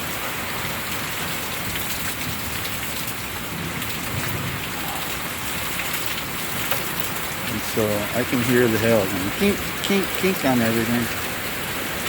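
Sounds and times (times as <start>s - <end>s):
hailstones ticking on hard surfaces: 0.0s - 12.0s
rain downpour: 0.0s - 12.0s.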